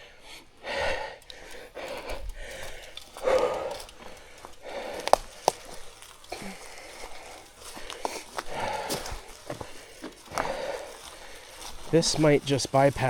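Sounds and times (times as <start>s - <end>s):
rider breathing hard: 0.0s - 13.0s
sharp clicks: 1.1s - 12.0s.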